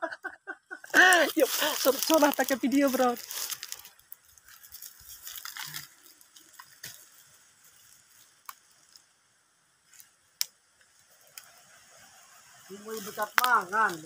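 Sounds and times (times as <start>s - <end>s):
dry leaves rustling: 0.8s - 14.0s.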